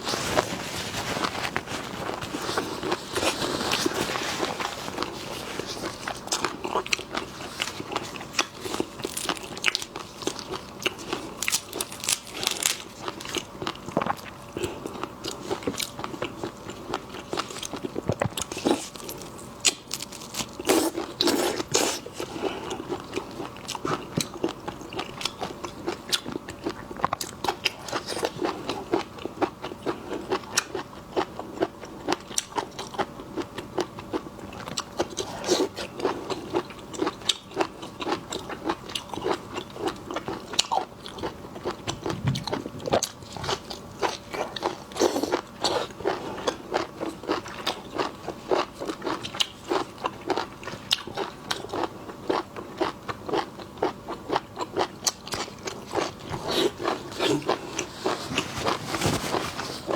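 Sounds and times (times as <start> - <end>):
crunching shellfish: 0.0 - 59.9.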